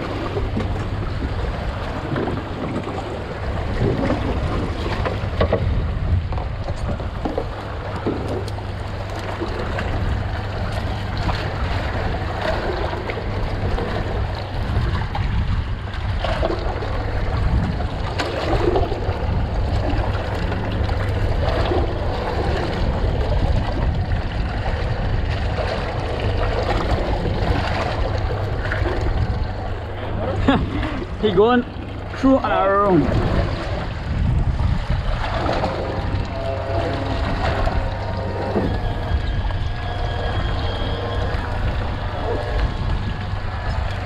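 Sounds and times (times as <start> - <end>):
steady low rumble: 0.0 - 44.0
water sloshing around boat: 0.0 - 44.0.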